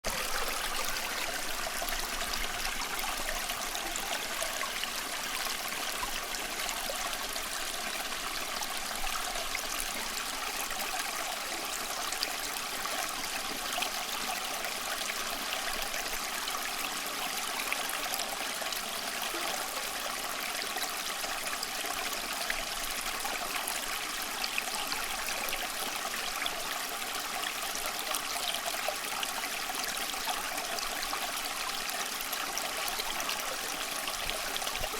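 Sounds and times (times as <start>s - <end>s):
small stream babbling: 0.0s - 34.9s.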